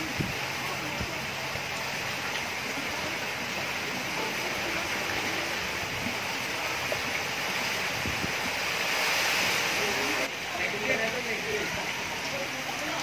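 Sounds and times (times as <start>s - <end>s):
rushing water hiss: 0.0s - 13.0s.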